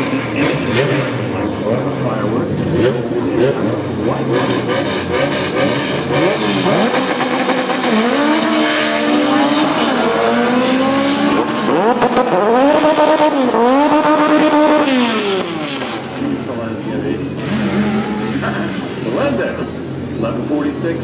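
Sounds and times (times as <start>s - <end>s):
car engine revving and accelerating: 0.0s - 21.0s.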